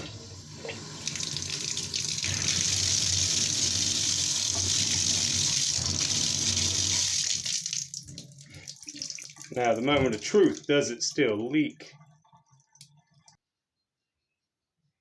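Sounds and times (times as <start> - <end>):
shower water running: 0.0 - 13.2.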